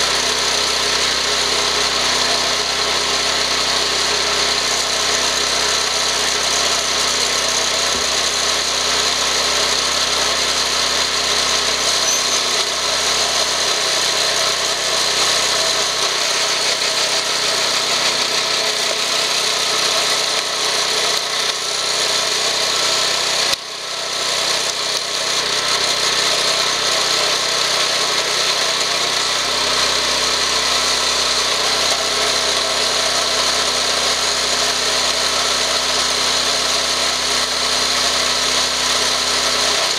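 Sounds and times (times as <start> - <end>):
log splitter engine running: 0.0 - 39.9.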